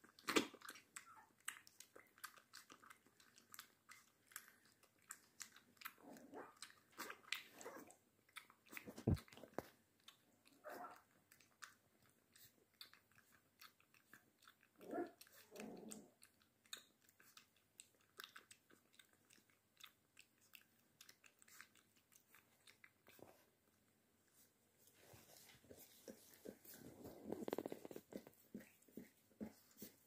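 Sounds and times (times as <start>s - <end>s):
puppy lapping milk: 0.0s - 30.0s.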